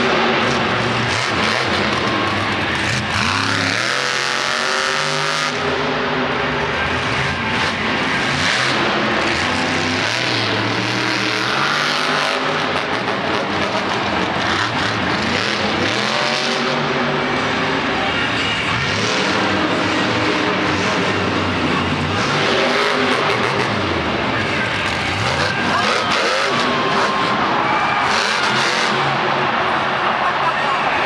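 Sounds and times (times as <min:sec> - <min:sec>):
truck engine revving hard: 0:00.0 - 0:30.2.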